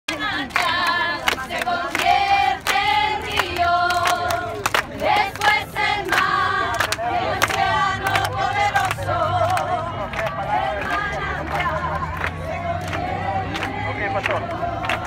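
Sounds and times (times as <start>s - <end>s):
crowd singing in unison: 0.1s - 15.0s
rhythmic hand clapping: 0.1s - 15.0s.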